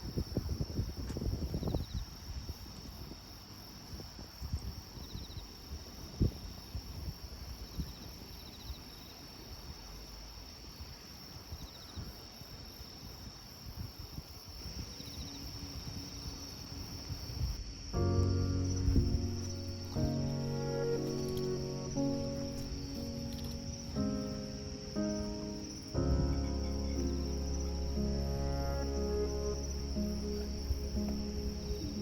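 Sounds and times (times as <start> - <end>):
cricket-like trills: 0.0 - 32.0
insects chirring: 0.0 - 32.0.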